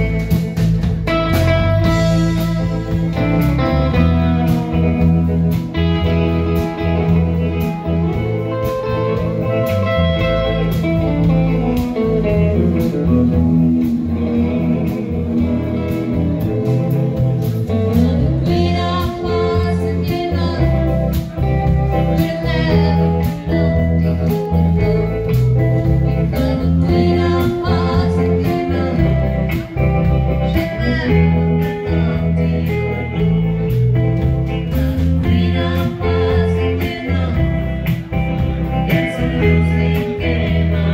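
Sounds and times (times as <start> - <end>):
rockabilly band playing live: 0.0 - 40.9.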